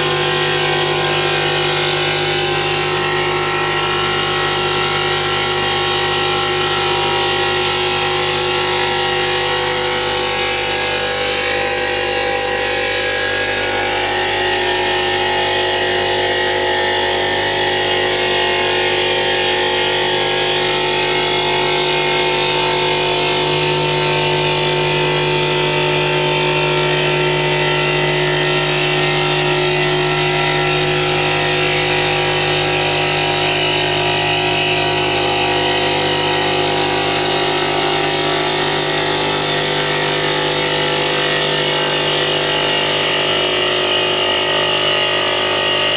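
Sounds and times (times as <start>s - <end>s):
polishing machine motor hum: 0.0s - 45.9s.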